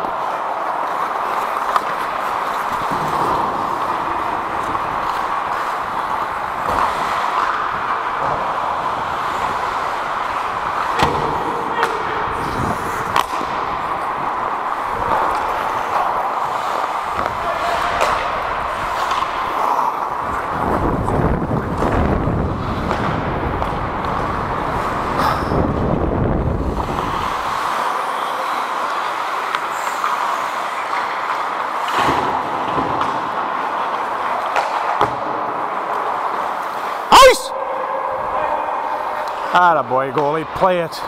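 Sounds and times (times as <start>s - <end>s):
hockey sticks and puck clacking: 0.0s - 25.9s, 26.6s - 41.0s
skates scraping on ice: 0.0s - 37.4s.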